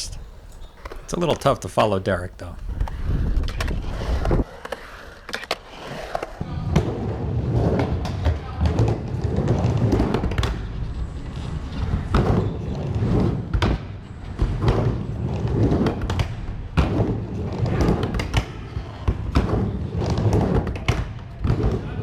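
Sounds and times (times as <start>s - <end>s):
skateboard wheels rumbling on ramp: 2.6s - 22.0s.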